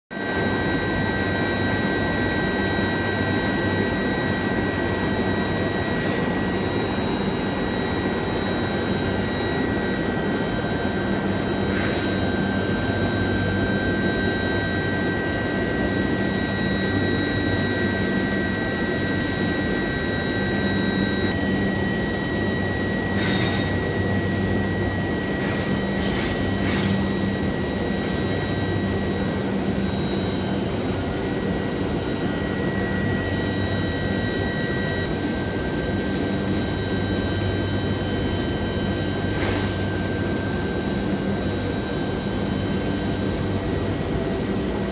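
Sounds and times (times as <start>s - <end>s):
high-pitched machine whines: 0.1s - 44.9s
industrial drone and hum: 0.1s - 44.9s.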